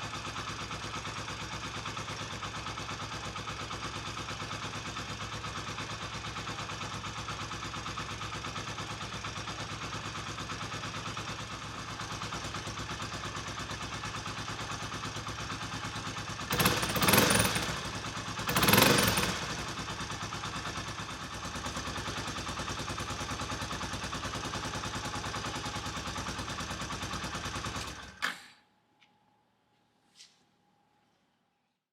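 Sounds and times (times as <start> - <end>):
motorcycle engine idling and revving: 0.0 - 28.5.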